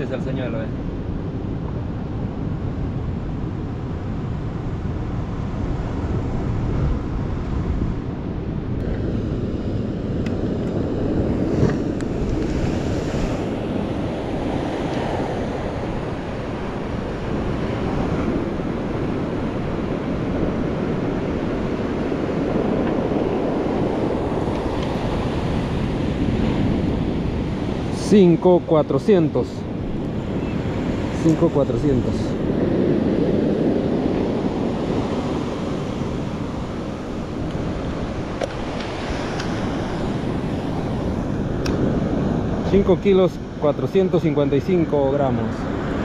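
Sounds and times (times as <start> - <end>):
wind rumbling on microphone: 0.0 - 46.0
sea surf on pebble beach: 8.8 - 46.0.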